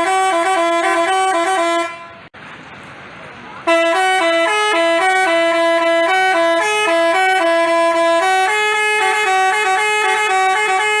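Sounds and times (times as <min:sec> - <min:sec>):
bus horn playing a tune: 0:00.0 - 0:02.3, 0:03.6 - 0:11.0.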